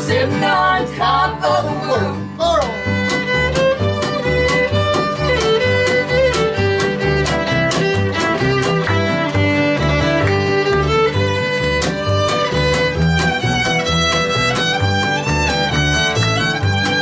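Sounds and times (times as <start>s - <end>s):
fiddle melody: 0.0s - 17.0s
rhythm guitar strumming: 0.0s - 17.0s.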